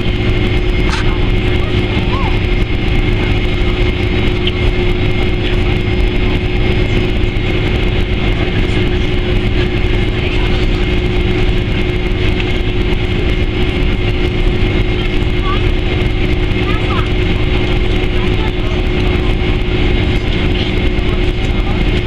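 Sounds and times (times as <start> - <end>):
jet engines droning: 0.0 - 22.0.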